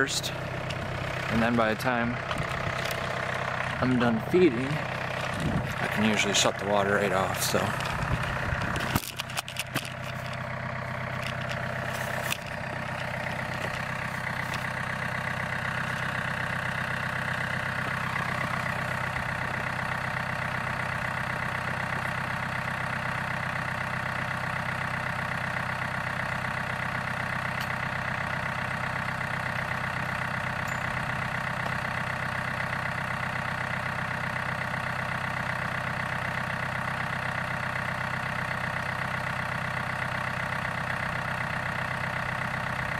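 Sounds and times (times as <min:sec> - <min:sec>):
engine knocks: 0:00.0 - 0:42.9
tractor diesel engine idling: 0:00.0 - 0:42.9.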